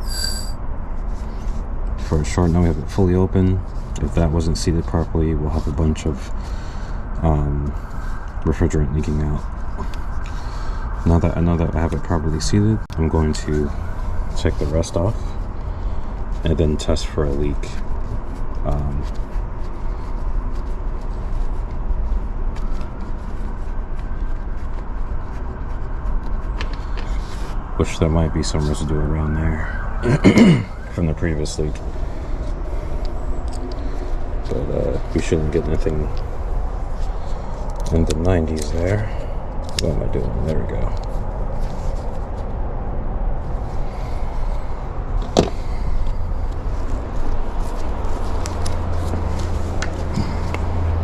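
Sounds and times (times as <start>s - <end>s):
outdoor rumble and hiss: 0.0s - 51.0s.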